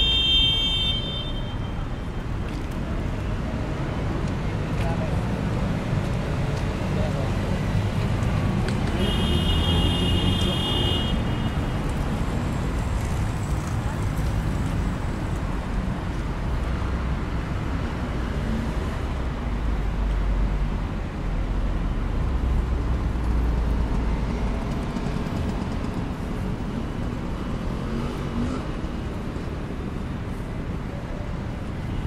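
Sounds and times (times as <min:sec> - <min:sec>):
passing cars rumble and hiss: 0:02.2 - 0:32.0.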